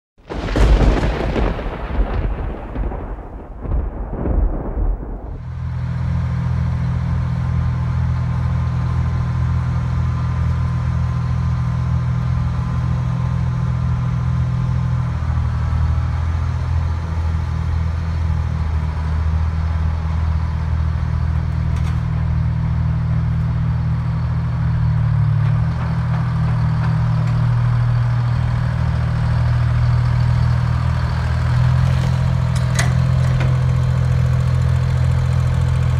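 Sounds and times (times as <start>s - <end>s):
rumbling noise: 0.2s - 7.2s, 11.6s - 35.9s
crane diesel engine under load: 5.4s - 35.9s.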